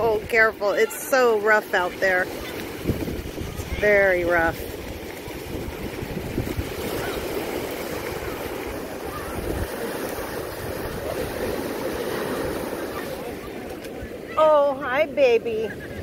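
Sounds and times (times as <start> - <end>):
surf breaking on shore: 0.0 - 16.0
wind rumbling on microphone: 0.0 - 16.0.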